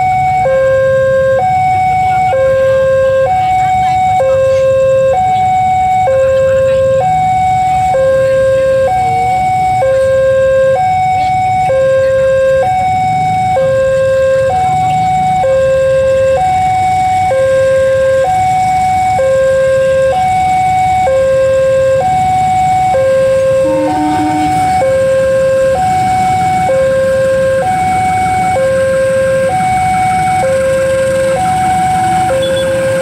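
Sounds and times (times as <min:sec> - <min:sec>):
level-crossing two-tone alarm: 0:00.0 - 0:33.0.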